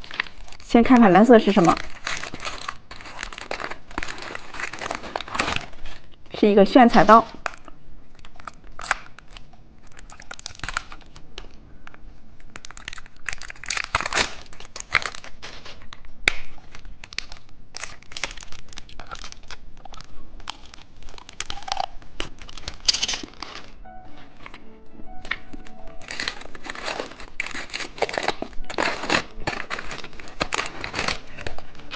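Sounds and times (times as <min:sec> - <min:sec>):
plastic packaging crinkling and tearing: 0:00.0 - 0:06.2, 0:07.2 - 0:23.8, 0:25.6 - 0:31.9.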